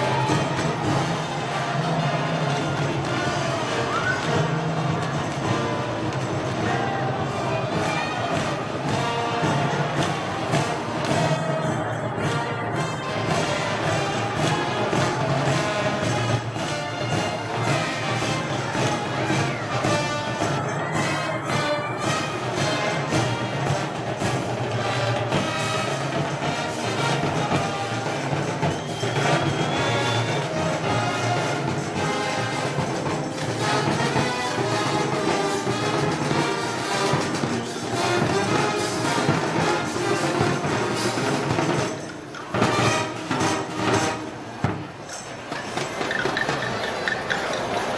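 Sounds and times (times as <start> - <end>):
brass band parade music: 0.0 - 47.9.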